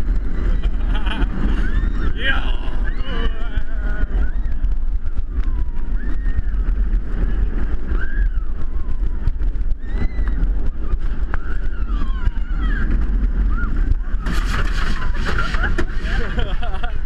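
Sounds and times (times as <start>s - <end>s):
roller coaster rumbling on track: 0.0s - 17.0s
wind buffeting microphone: 0.0s - 17.0s.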